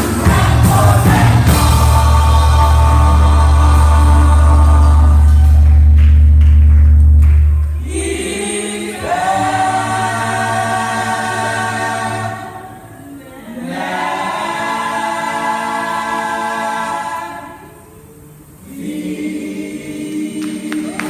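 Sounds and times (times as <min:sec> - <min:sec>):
church choir singing: 0:00.0 - 0:05.9, 0:07.8 - 0:21.0.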